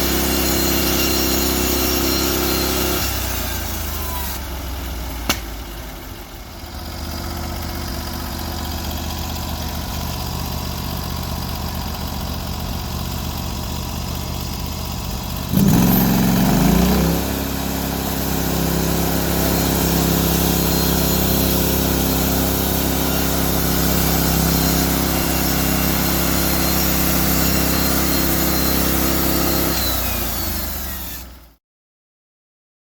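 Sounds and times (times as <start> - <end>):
sawmill engine revving: 0.0 - 31.6.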